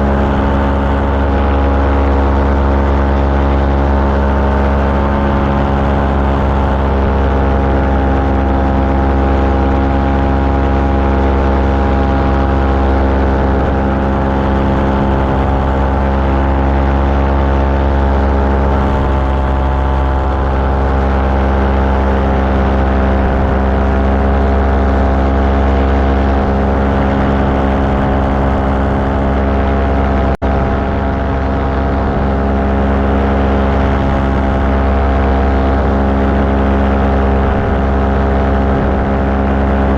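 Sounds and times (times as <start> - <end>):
small aircraft engine drone: 0.0 - 39.9.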